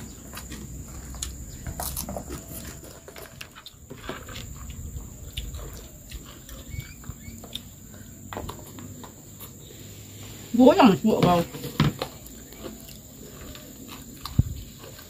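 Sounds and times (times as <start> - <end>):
toddler chewing with wet smacking: 0.0 - 9.6, 12.1 - 15.0.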